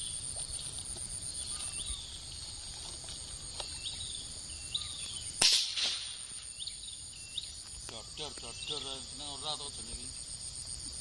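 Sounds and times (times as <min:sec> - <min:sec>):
crickets buzzing: 0:00.0 - 0:11.0.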